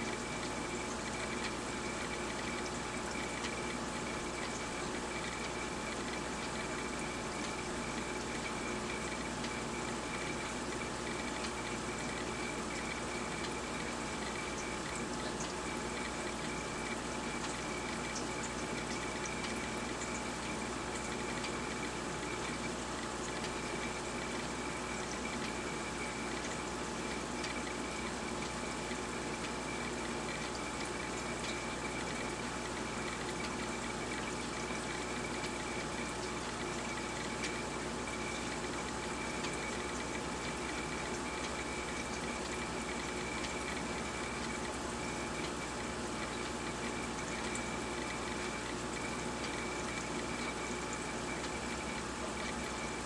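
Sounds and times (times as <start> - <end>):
aquarium filter running: 0.0 - 53.0.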